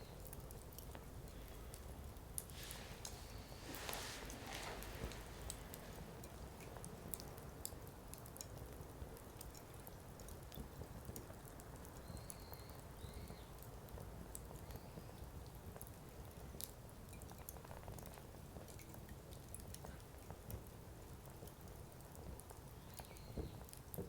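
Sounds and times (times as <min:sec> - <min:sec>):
firewood crackling and popping: 0:00.0 - 0:24.0.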